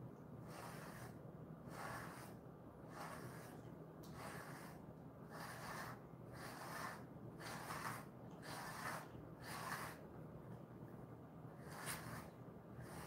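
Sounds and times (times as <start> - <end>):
brush rasping through dog fur: 0.4 - 10.1, 11.6 - 13.0.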